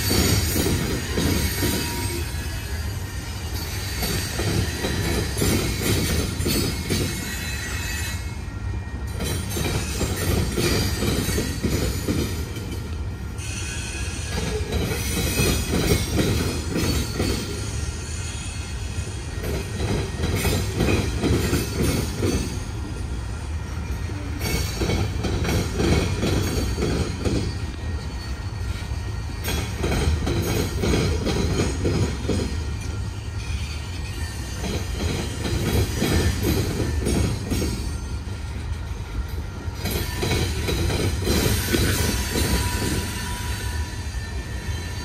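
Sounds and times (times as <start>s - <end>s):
freight train wheels rumbling: 0.0s - 45.0s.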